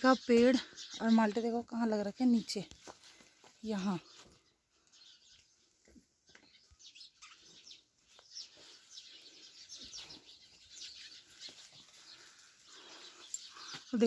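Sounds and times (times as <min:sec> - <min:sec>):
faint small birds chirping: 0:00.0 - 0:14.0.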